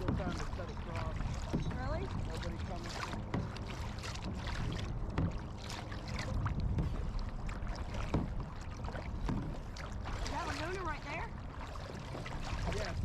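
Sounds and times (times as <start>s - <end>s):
paddles splashing in water: 0.0s - 13.0s
wind buffeting microphone: 0.0s - 13.0s.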